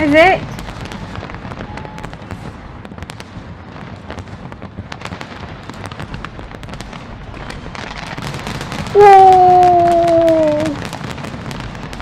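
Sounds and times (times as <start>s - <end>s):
fireworks crackling and popping: 0.0s - 12.0s
low rumble of firework bursts: 0.0s - 12.0s.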